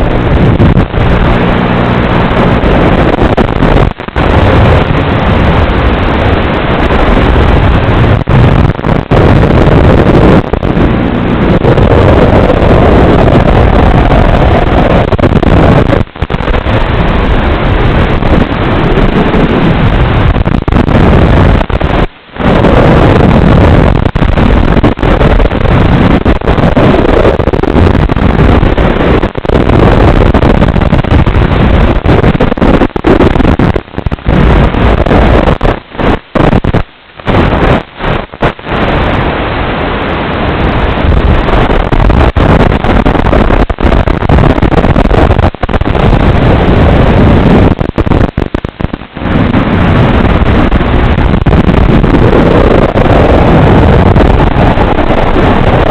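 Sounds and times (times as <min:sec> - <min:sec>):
wind noise: 0:00.0 - 0:55.9.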